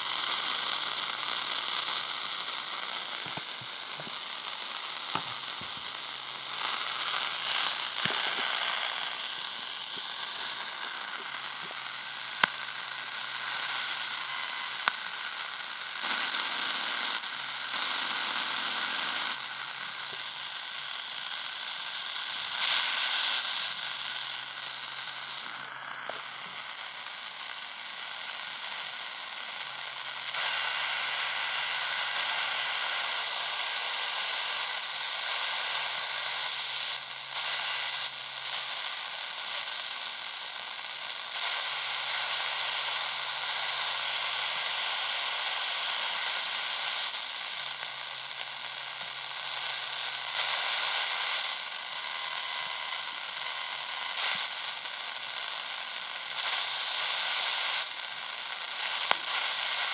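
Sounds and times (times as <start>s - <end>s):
radio static hissing and crackling: 0.0s - 59.9s.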